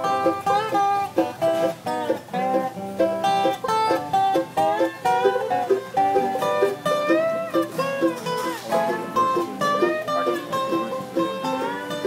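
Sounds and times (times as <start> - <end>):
bluegrass instrumental jam: 0.0 - 12.0
resonator guitar sliding notes: 0.0 - 12.0.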